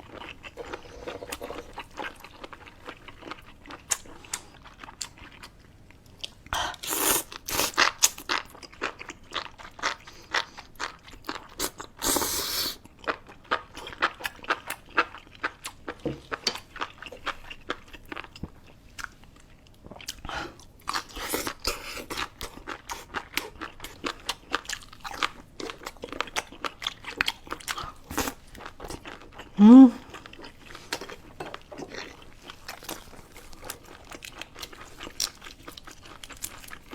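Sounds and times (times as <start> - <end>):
close chewing and crunching: 0.0 - 36.9.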